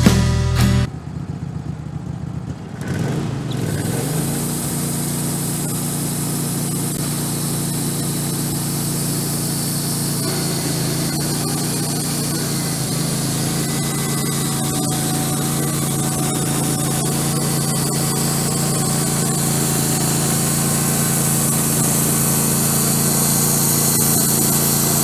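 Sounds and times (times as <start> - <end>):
sawmill engine running: 0.0 - 25.0.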